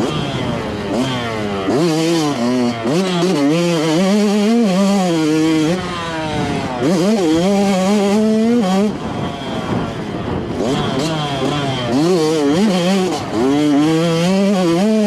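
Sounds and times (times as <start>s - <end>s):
dirt bike revving: 0.0s - 15.0s.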